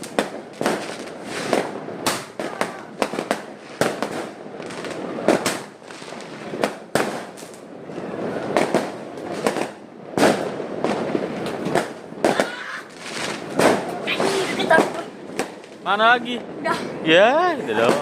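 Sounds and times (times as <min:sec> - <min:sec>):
continuous noisy hiss: 0:00.0 - 0:18.0
fireworks banging: 0:00.0 - 0:18.0.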